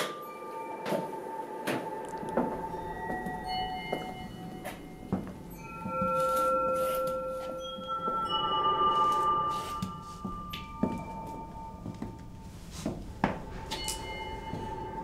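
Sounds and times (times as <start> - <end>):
bell-like music tones: 0.0 - 15.0.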